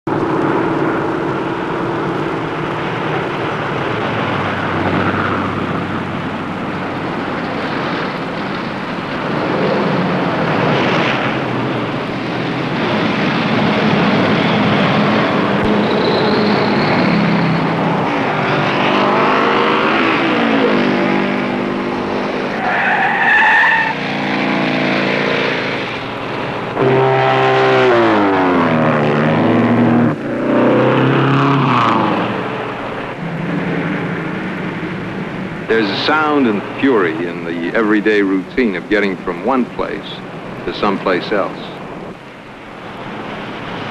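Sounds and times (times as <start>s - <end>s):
traffic noise: 0.0s - 43.9s
engines revving: 0.1s - 43.9s.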